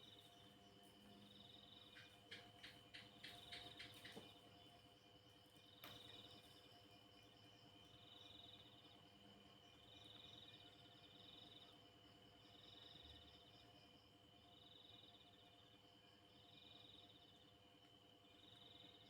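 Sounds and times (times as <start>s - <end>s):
steady high insect trill: 0.0s - 19.0s.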